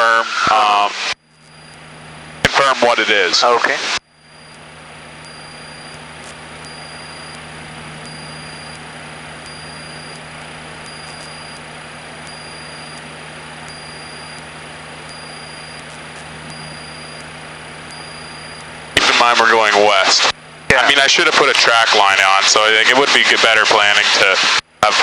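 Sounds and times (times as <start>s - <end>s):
aircraft engine droning in cabin: 0.0s - 24.4s.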